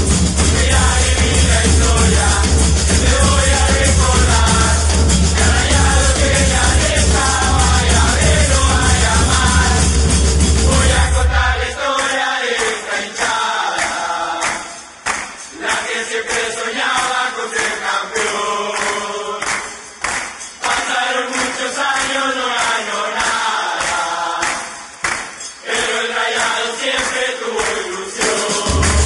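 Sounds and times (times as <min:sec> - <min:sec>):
group of voices singing: 0:00.0 - 0:29.0
light percussion beat: 0:00.0 - 0:29.0.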